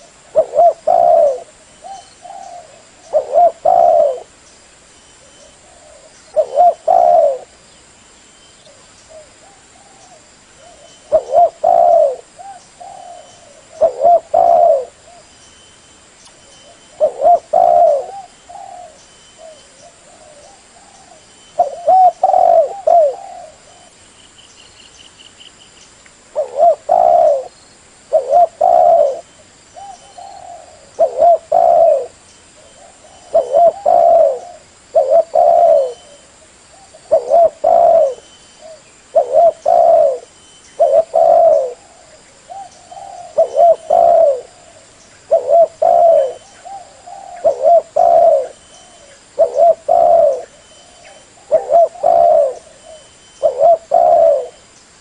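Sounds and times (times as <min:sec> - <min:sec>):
dove cooing: 0:00.0 - 0:04.4, 0:05.2 - 0:07.6, 0:08.6 - 0:15.3, 0:16.6 - 0:24.0, 0:26.3 - 0:27.5, 0:28.1 - 0:54.7.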